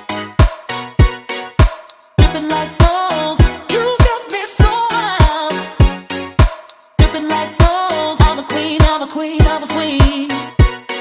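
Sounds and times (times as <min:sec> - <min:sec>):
music with kick-drum beat: 0:00.0 - 0:11.0.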